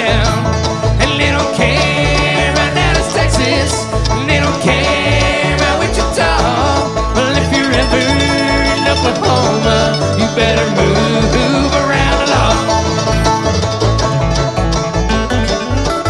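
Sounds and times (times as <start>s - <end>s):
bass line: 0.0s - 16.0s
plucked banjo: 0.0s - 16.0s
string band playing: 0.0s - 16.0s.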